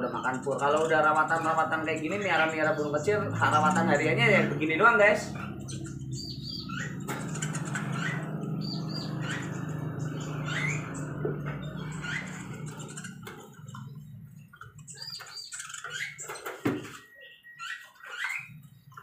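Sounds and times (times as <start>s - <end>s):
birds fluttering in cages: 0.0s - 19.0s
small birds chirping: 0.0s - 19.0s.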